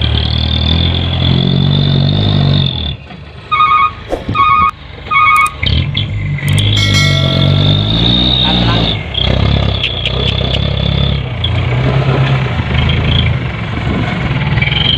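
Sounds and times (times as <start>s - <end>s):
truck engine running: 0.0s - 14.9s.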